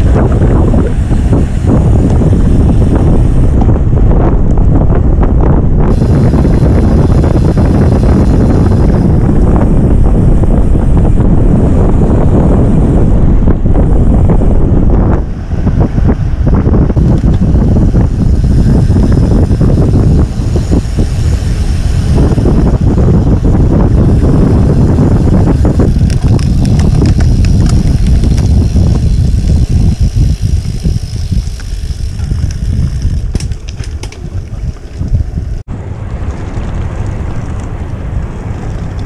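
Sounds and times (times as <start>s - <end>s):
tyre rumble on road: 0.0s - 39.0s
wind buffeting microphone: 0.0s - 39.0s.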